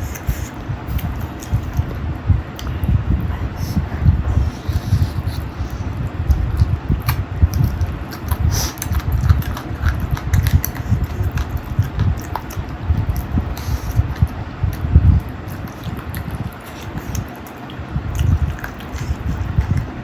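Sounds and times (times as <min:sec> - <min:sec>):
chewing with mouth clicks: 0:00.0 - 0:20.0
low rumble: 0:00.0 - 0:20.0.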